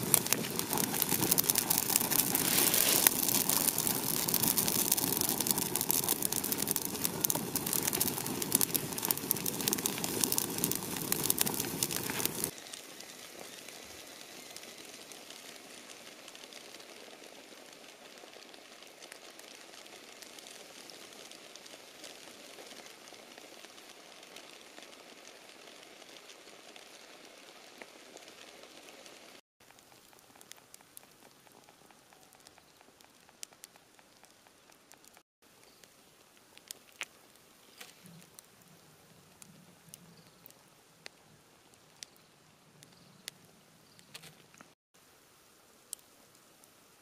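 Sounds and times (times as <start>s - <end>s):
fine sizzling: 0.0s - 42.2s
wood fire crackling: 0.0s - 47.0s.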